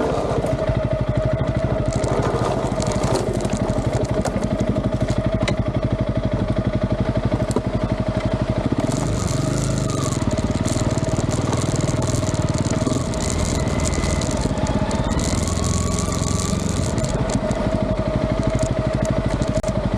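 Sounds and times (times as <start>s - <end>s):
engine running with whine: 0.0s - 19.9s.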